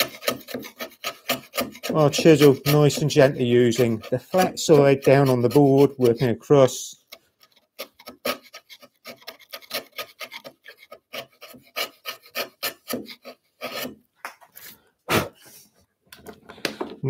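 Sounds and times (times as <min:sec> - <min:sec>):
chisel scraping wood: 0:00.0 - 0:14.8.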